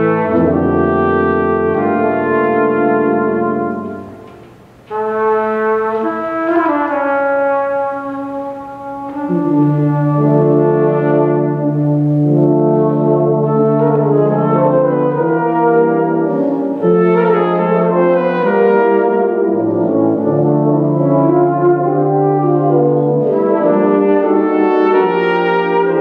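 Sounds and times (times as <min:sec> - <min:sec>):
tuba and euphonium ensemble: 0:00.0 - 0:26.0.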